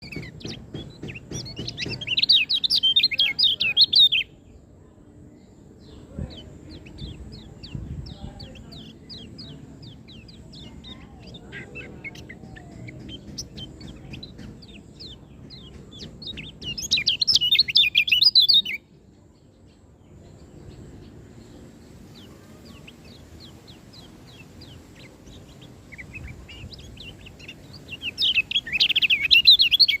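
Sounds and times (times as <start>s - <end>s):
bird chirping and warbling: 0.0s - 4.5s, 5.4s - 18.9s, 19.6s - 30.0s.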